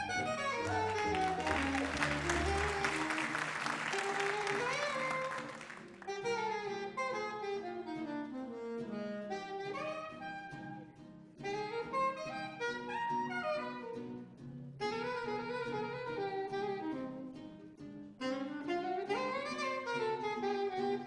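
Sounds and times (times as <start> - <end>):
saxophone melody: 0.0 - 21.0
small jazz combo playing: 0.0 - 21.0.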